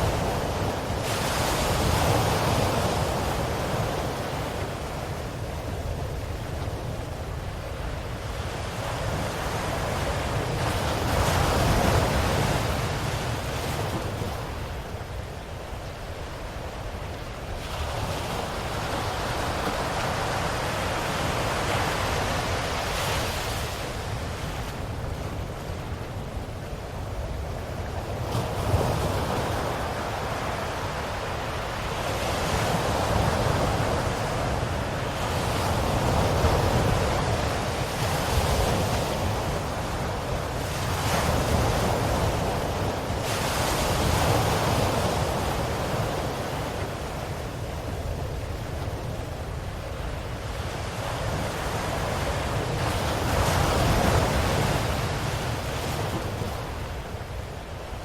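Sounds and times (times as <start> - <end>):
low rumble of surf: 0.0 - 58.0
ocean waves breaking: 0.0 - 58.0.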